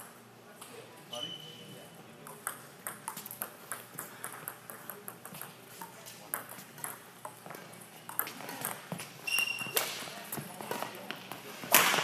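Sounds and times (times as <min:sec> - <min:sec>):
low hum of hall: 0:00.0 - 0:12.0.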